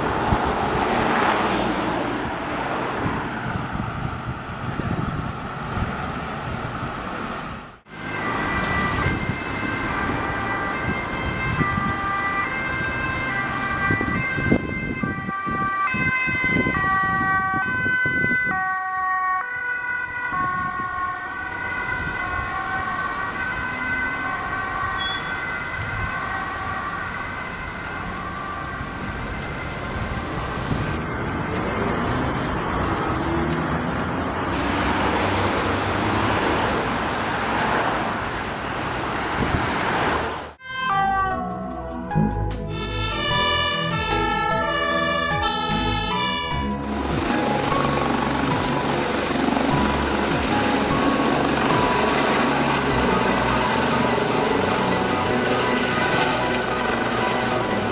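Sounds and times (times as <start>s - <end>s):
road traffic: 0.0s - 57.9s
two-tone ambulance siren: 7.7s - 36.9s, 40.6s - 57.9s.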